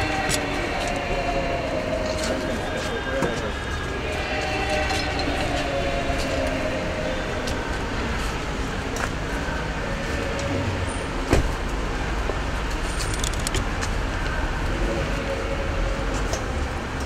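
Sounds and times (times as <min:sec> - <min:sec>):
faint voices: 0:00.0 - 0:17.0
vehicle and street rumble: 0:00.0 - 0:17.0.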